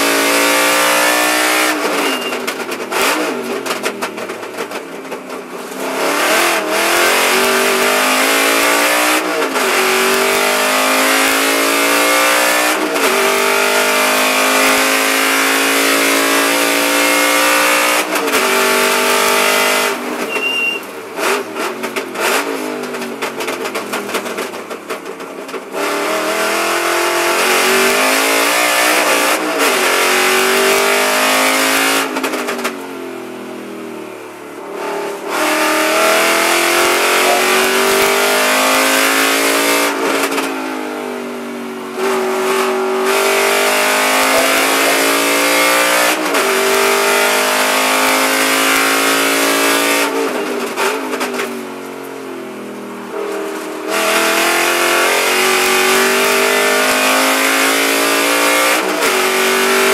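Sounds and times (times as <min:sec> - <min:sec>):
race car engine accelerating: 0:05.6 - 0:24.6, 0:25.7 - 0:33.7, 0:34.4 - 0:41.0, 0:41.9 - 0:51.6, 0:53.0 - 0:59.9.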